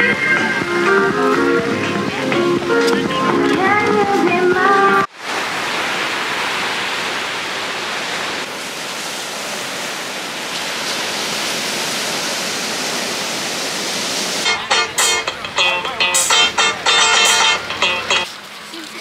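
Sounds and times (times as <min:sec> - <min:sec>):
ocean surf rushing: 0:00.0 - 0:18.4.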